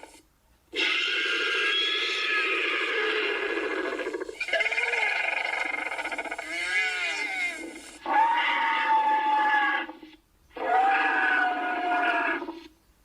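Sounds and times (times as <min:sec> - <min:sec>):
albatross calls: 0:00.8 - 0:12.6.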